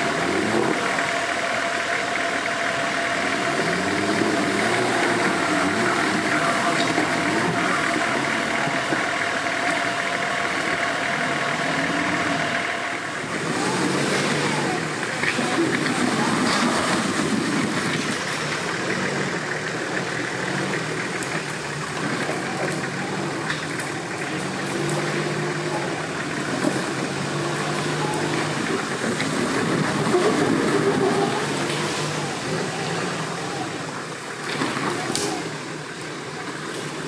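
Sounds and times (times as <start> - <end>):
off-road vehicle engine revving: 0.0 - 37.0.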